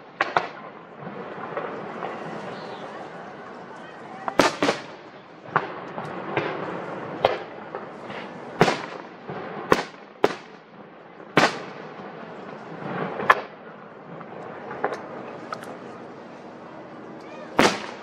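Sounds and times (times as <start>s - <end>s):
fireworks bursting with echo: 0.0s - 18.0s.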